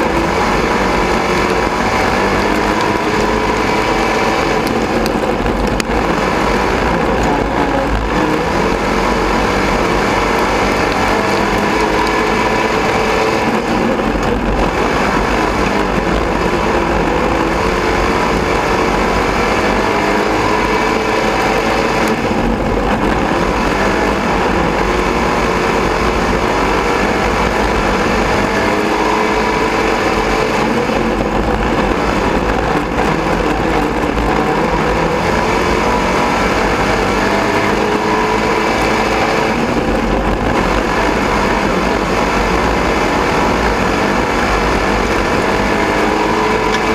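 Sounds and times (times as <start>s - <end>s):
race car engine: 0.0s - 46.9s
wind and track noise: 0.0s - 46.9s.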